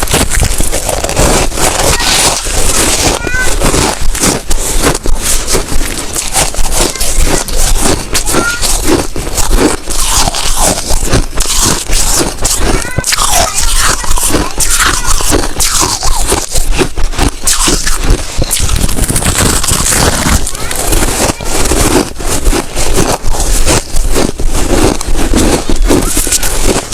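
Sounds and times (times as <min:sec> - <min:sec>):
ice crunching being chewed: 0:00.0 - 0:26.9.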